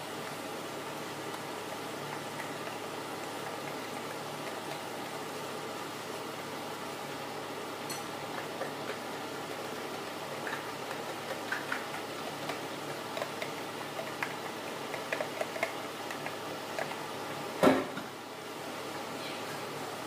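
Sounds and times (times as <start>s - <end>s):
chili paste sizzling in a pan: 0.0s - 20.0s.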